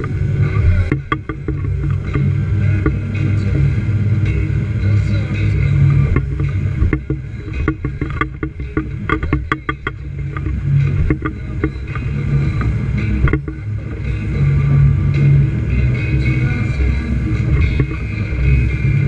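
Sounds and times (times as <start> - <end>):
hull slapping on waves: 0.0 - 19.0
outboard motor running: 0.0 - 19.0.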